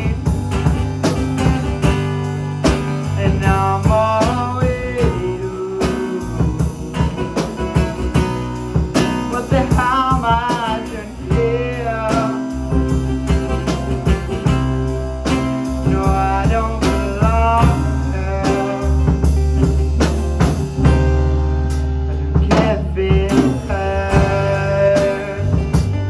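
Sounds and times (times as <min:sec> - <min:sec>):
man singing: 0:00.0 - 0:00.8, 0:01.4 - 0:08.2, 0:08.9 - 0:20.1, 0:22.2 - 0:26.0
drum kit beat: 0:00.0 - 0:26.0
strummed acoustic guitar: 0:00.0 - 0:26.0.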